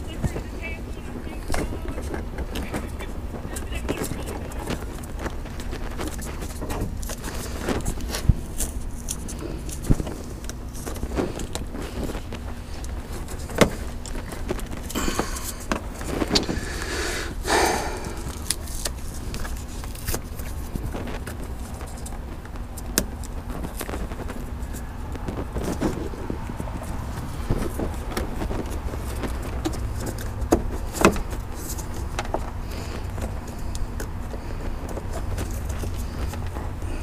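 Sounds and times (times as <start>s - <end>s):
wires rustling and scraping: 0.0s - 37.0s.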